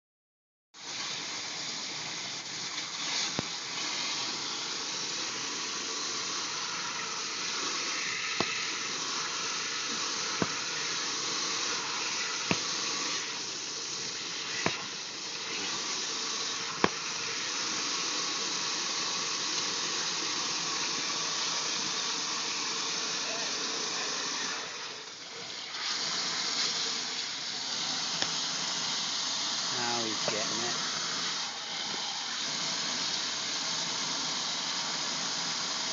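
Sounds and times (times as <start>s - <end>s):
water gushing from pipe: 0.8s - 35.9s.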